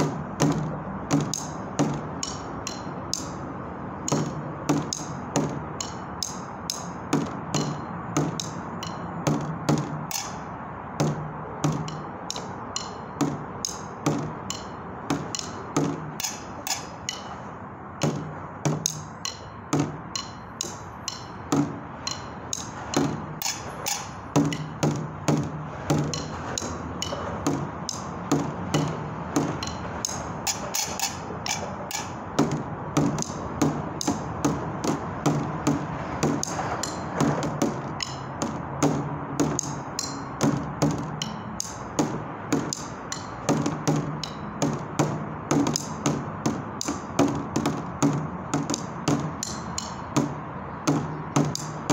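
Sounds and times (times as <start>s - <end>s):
sticks drumming on plastic container: 0.0s - 3.4s, 4.0s - 17.3s, 17.9s - 51.9s.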